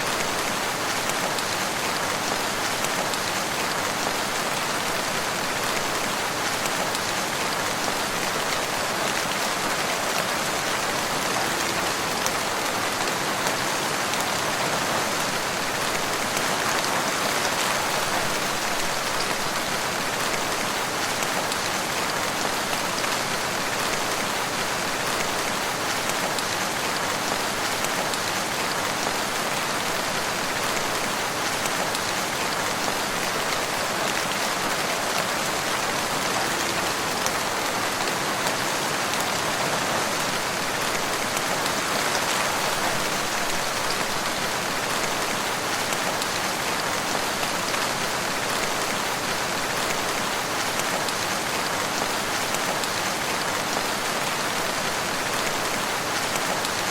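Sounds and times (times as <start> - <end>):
rain falling in woodland: 0.0 - 56.9.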